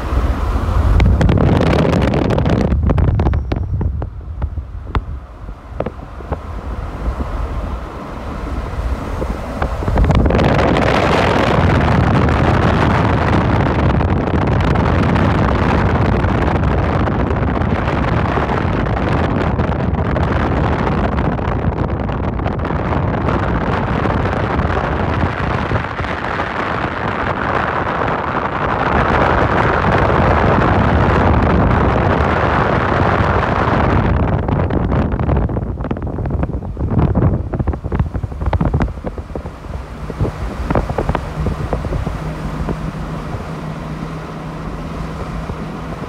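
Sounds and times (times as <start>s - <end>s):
road and engine noise: 0.0s - 46.0s
wind buffeting microphone: 0.0s - 46.0s.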